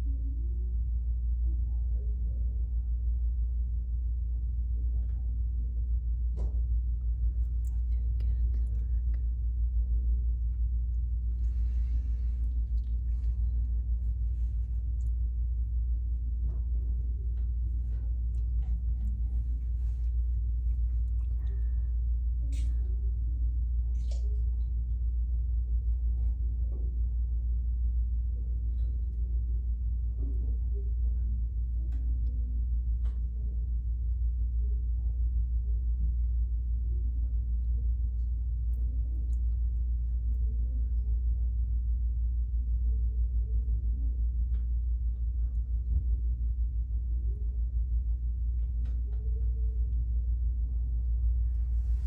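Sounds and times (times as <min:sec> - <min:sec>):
low background rumble: 0:00.0 - 0:52.0.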